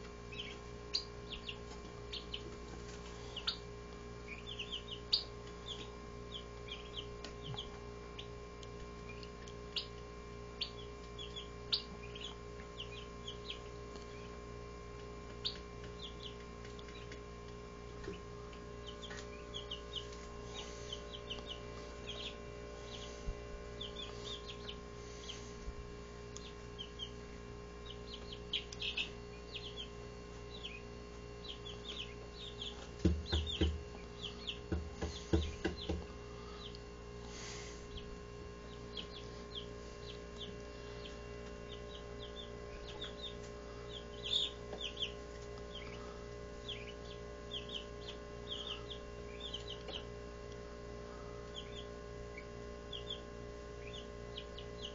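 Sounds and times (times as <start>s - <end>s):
chicks peeping: 0.0s - 54.9s
steady low hum: 0.0s - 54.9s.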